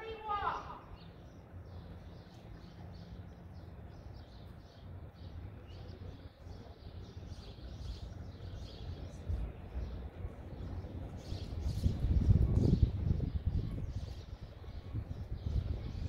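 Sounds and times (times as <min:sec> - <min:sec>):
small birds chirping: 0:00.0 - 0:16.0
steady low rumble: 0:00.7 - 0:16.0.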